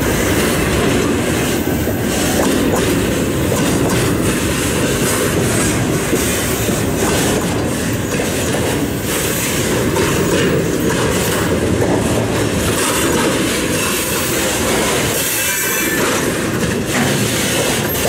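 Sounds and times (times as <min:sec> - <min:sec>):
train wheels rumbling on rails: 0:00.0 - 0:18.0
wheels clacking over rail joints: 0:00.0 - 0:18.0.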